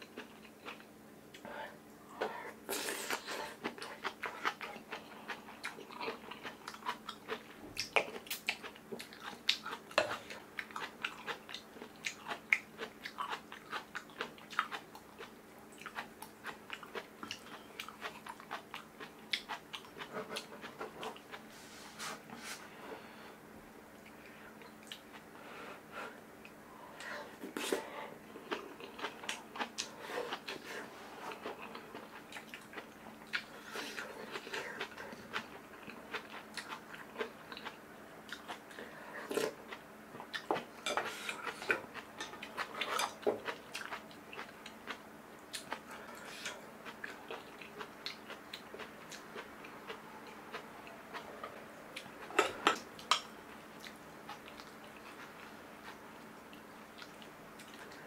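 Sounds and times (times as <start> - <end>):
person chewing food: 0.0 - 21.5, 23.9 - 25.5, 26.1 - 58.0.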